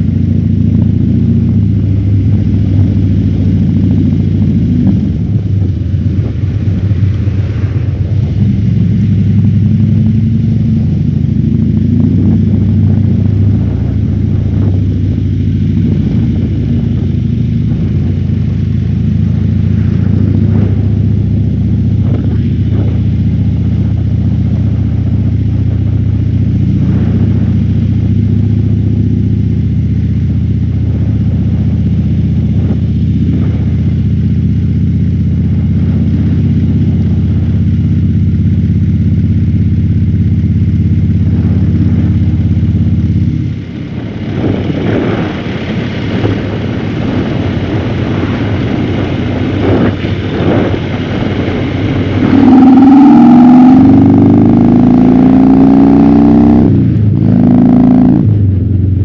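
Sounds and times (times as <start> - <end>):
motorcycle engine accelerating and cruising: 0.0 - 59.0.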